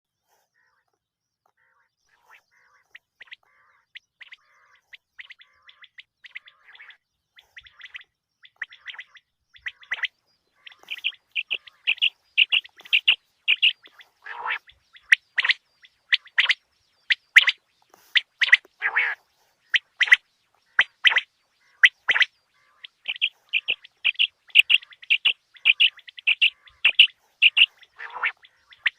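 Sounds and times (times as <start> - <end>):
quail calling: 1.6 - 28.9.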